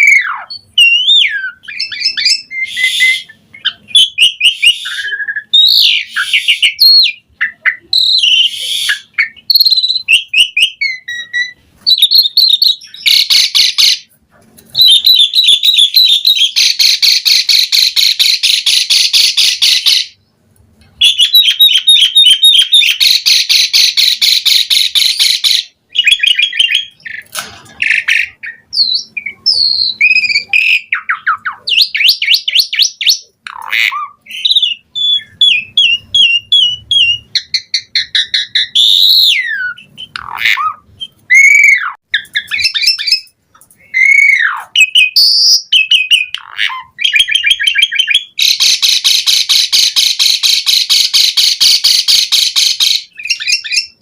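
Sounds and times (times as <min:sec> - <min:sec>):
starling singing: 0:00.0 - 0:14.1, 0:14.7 - 0:20.2, 0:21.0 - 0:54.0.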